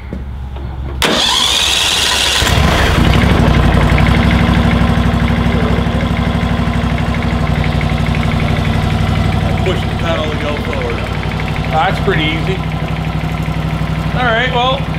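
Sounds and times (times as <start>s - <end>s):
lawn tractor engine running: 1.0s - 14.9s
starter cranking engine: 1.0s - 14.9s.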